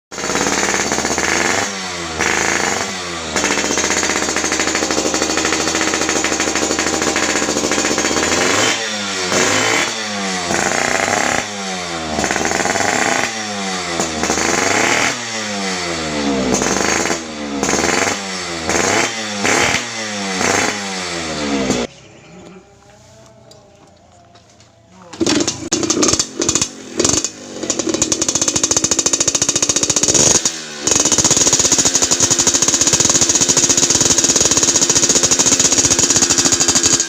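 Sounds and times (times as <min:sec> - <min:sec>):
small engine revving: 0:00.1 - 0:37.0.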